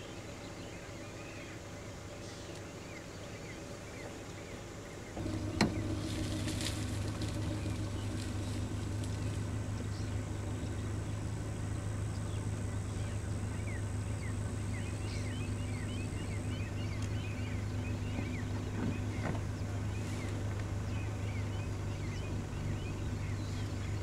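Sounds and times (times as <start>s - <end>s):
birds chirping: 0.0s - 24.0s
vehicle engine idling: 0.0s - 24.0s.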